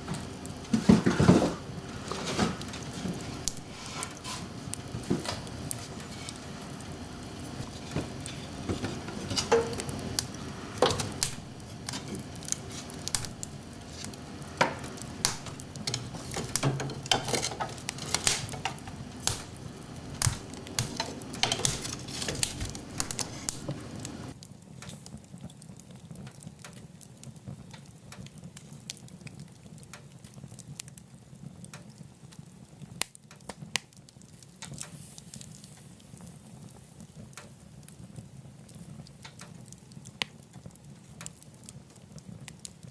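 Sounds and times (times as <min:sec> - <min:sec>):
steady fire hiss: 0:00.0 - 0:42.9
wood fire crackling and popping: 0:00.0 - 0:42.9.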